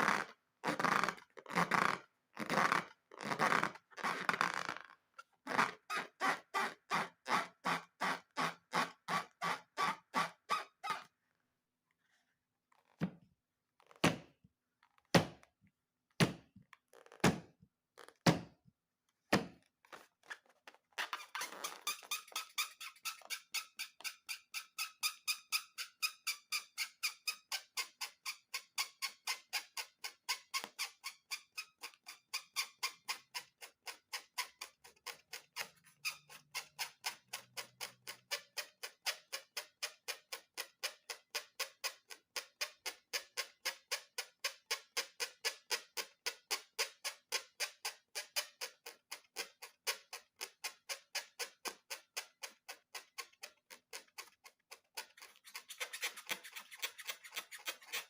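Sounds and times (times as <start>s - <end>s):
rubber balloon squeaks: 0.0s - 11.1s, 12.7s - 13.1s, 13.7s - 15.5s, 16.2s - 18.6s, 19.3s - 58.0s.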